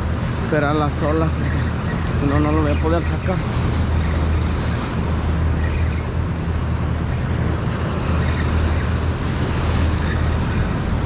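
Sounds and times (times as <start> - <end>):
ocean surf breaking on rocks: 0.0 - 11.0
wind buffeting microphone: 0.0 - 11.0.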